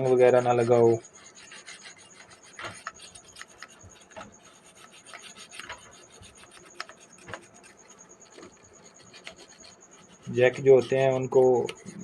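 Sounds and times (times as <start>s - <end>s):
toothbrush scrubbing circuit board: 0.0s - 12.0s.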